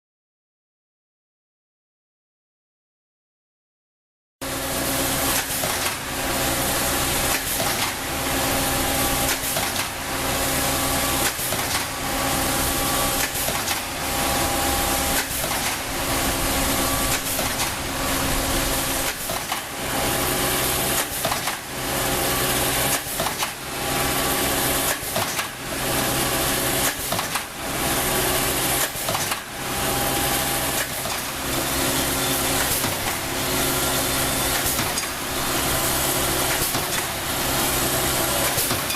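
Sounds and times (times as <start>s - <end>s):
machine whirring with hum: 4.4s - 38.9s.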